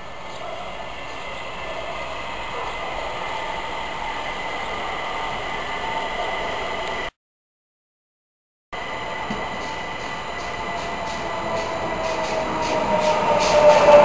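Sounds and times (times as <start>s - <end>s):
train approaching: 0.0s - 7.1s, 8.8s - 14.0s.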